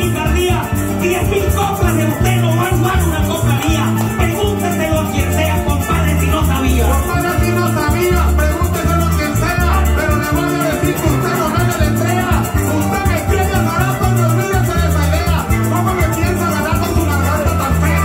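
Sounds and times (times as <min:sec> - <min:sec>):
cuatro strumming: 0:00.0 - 0:18.0
electric bass: 0:00.0 - 0:18.0
man singing into microphone: 0:00.0 - 0:18.0
maracas shaking: 0:00.0 - 0:18.0.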